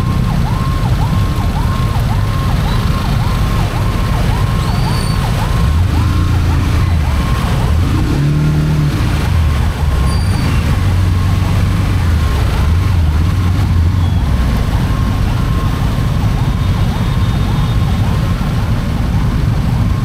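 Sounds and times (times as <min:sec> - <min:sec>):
low rumble of traffic: 0:00.0 - 0:20.0
siren yelping: 0:00.0 - 0:20.0.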